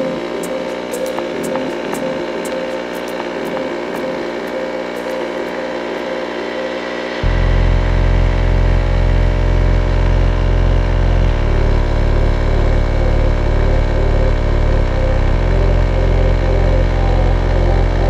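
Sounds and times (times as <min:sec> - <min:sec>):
steady whine: 0:00.0 - 0:09.5, 0:11.0 - 0:18.0.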